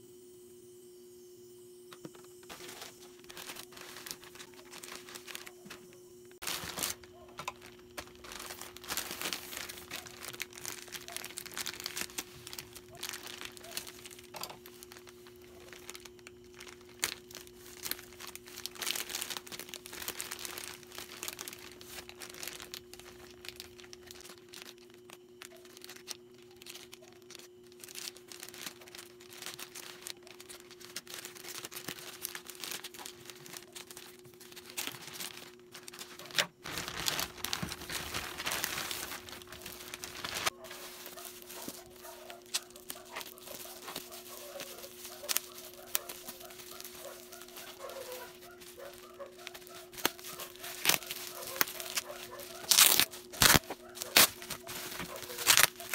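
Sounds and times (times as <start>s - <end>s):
faint steady hum: 0.0s - 55.9s
packaging crinkling: 2.0s - 55.9s.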